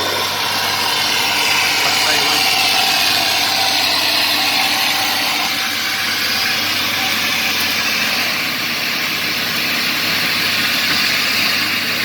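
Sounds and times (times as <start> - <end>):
diesel earthmoving machine running: 0.0 - 12.0.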